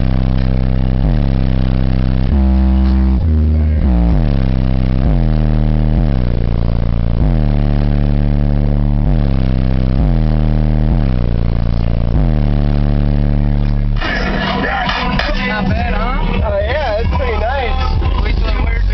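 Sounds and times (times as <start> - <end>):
bass-heavy music from subwoofers: 0.0 - 18.9.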